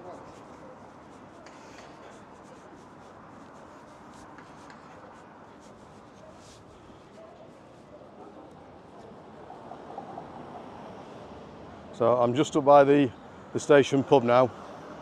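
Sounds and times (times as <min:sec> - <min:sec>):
street background noise: 0:00.0 - 0:15.0.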